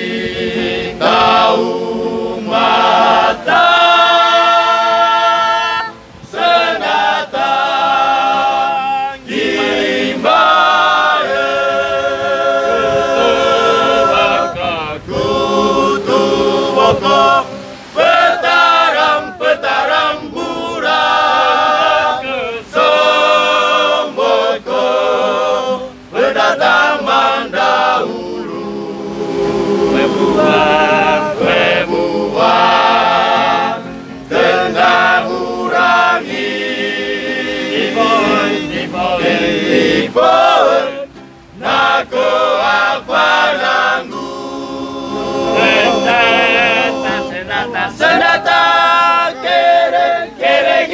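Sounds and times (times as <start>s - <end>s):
choir singing unaccompanied: 0.0s - 50.9s.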